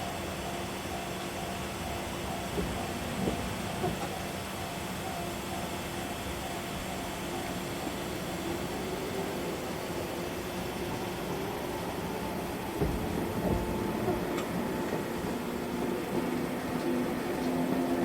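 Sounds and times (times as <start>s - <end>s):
electric train hum: 0.0s - 18.0s
low train rumble: 0.0s - 18.0s.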